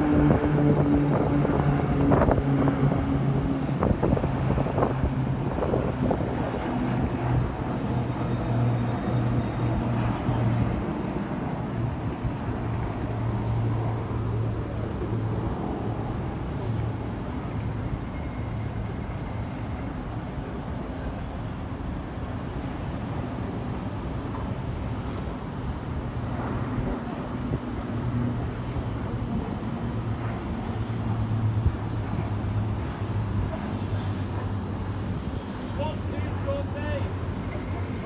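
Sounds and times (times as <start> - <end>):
city traffic rumble: 0.0 - 38.0
distant aircraft engines droning: 0.0 - 38.0.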